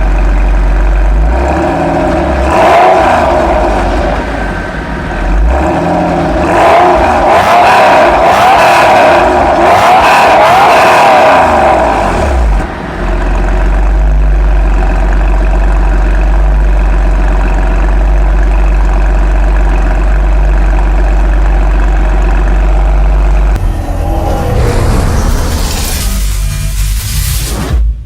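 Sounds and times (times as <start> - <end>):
car engine idling loudly: 0.0 - 27.5.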